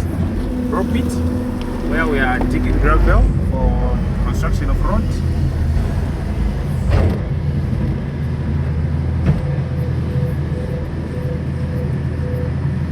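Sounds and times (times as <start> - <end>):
excavator diesel engine: 0.0 - 12.9.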